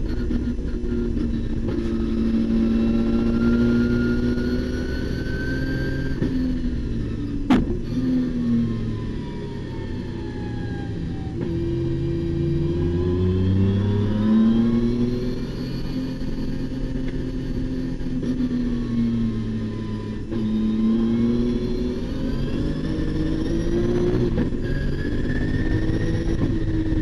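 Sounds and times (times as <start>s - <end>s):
race car engine accelerating: 0.0s - 27.0s.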